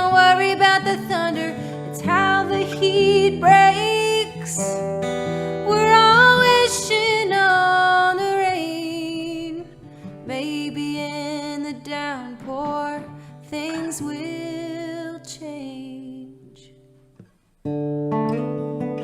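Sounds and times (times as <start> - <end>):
woman singing: 0.0 - 16.8
guitar: 0.0 - 19.0.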